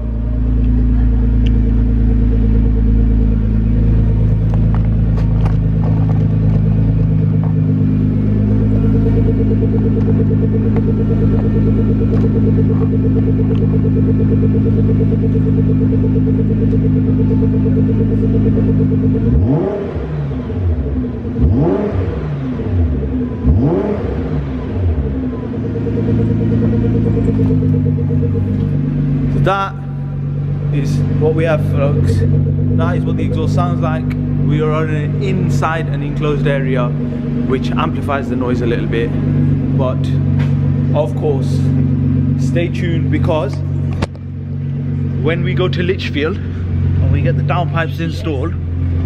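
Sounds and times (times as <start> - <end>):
car engine idling: 0.0 - 49.0
engine revving: 0.0 - 49.0.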